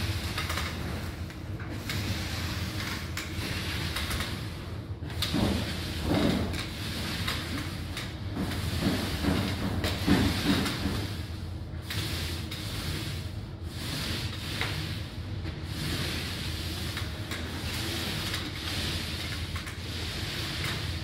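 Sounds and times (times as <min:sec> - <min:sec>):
paint roller swishing: 0:00.0 - 0:21.0
steady low hum: 0:00.0 - 0:21.0.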